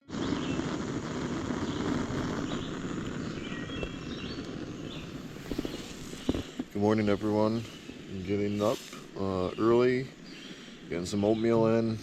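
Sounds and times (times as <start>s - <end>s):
steady low rumble: 0.6s - 12.0s
faint bird chirps: 1.5s - 12.0s.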